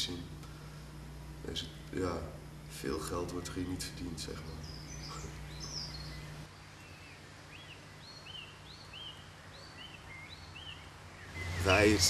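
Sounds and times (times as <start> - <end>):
faint outdoor hiss: 0.0 - 12.0
low hum: 0.0 - 12.0
bird chirping: 1.4 - 2.1, 2.8 - 12.0.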